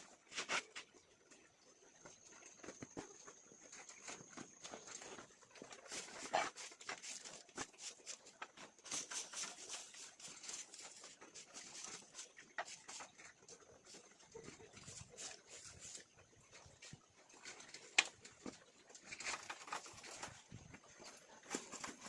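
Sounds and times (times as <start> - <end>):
animals tapping and scratching: 0.0 - 22.0.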